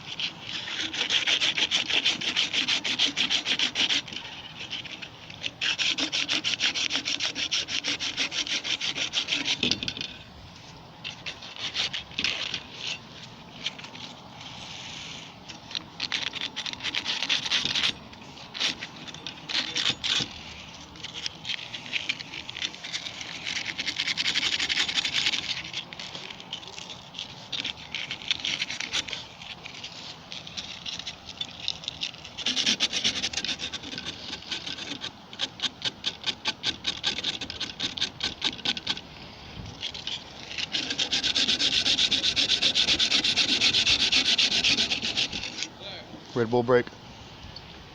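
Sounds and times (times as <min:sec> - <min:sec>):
sandpaper scrubbing metal: 0:00.0 - 0:10.0, 0:11.1 - 0:39.0, 0:39.8 - 0:45.7.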